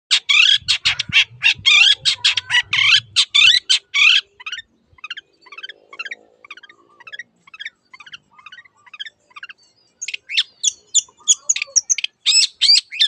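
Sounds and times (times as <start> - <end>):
bird harsh chattering song: 0.1 - 13.0.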